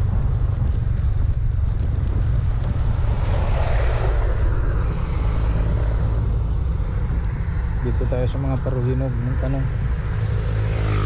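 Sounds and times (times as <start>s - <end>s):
motorcycle engine rumble: 0.0s - 11.0s
wind buffeting microphone: 0.0s - 11.0s.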